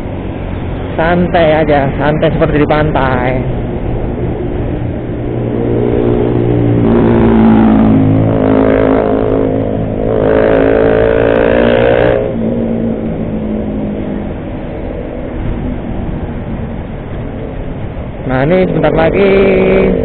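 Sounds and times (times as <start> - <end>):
vehicle engine revving: 0.0 - 18.2
riding noise: 0.0 - 20.0.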